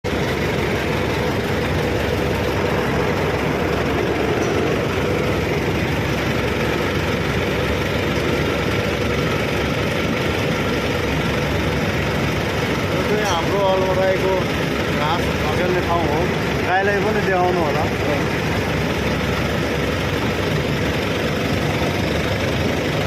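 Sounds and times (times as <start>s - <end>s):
machine drone: 0.0s - 23.0s.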